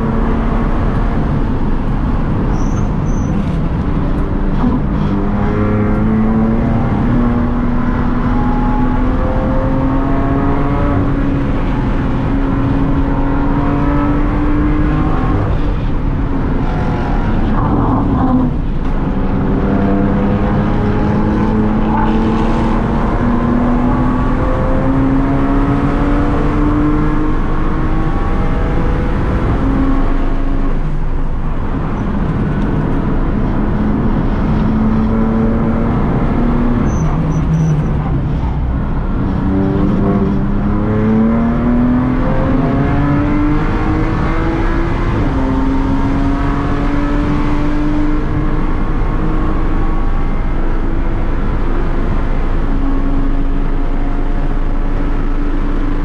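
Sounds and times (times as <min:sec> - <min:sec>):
car engine under hard driving: 0:00.0 - 0:56.0
road and wind noise: 0:00.0 - 0:56.0.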